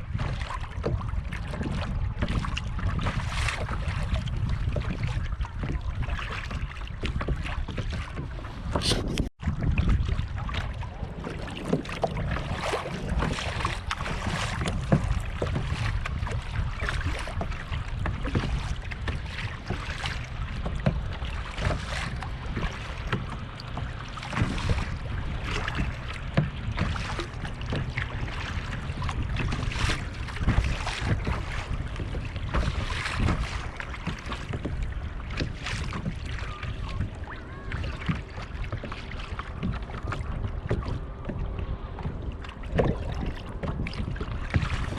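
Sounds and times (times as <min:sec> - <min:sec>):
kayak paddle splashing water: 0:00.0 - 0:44.9
wind rumble on microphone: 0:00.0 - 0:44.9.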